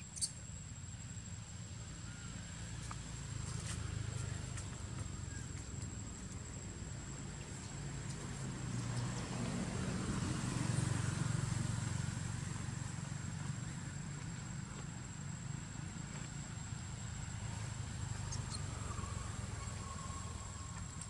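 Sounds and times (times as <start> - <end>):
vehicle engine rumble passing: 0.0 - 21.0.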